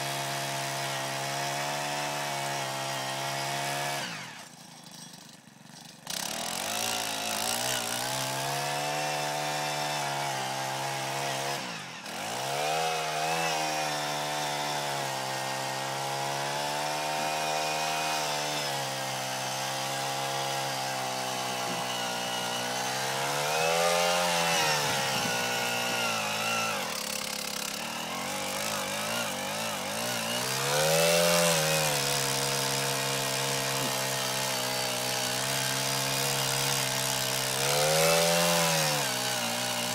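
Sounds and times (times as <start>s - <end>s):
earth auger engine running: 0.0s - 39.9s.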